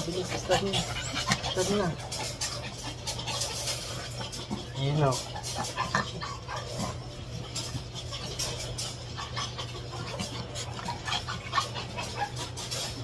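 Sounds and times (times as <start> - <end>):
dogs eating from bowl: 0.0 - 13.0.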